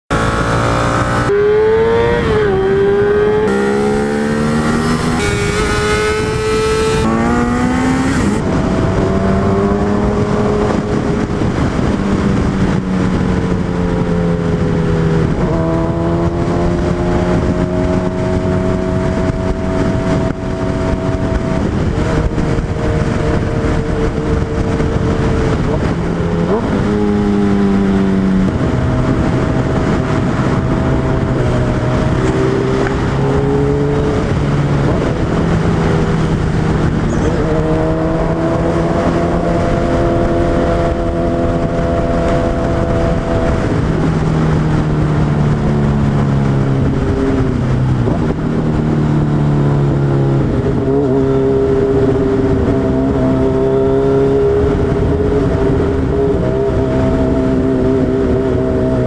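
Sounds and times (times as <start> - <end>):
motorcycle engine running: 0.1 - 59.0
steady rushing noise: 0.1 - 59.0.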